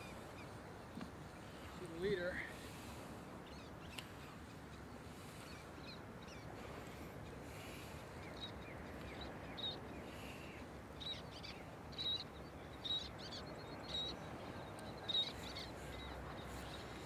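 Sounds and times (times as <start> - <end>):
birds chirping: 0.0 - 17.0
steady outdoor hiss: 0.0 - 17.0.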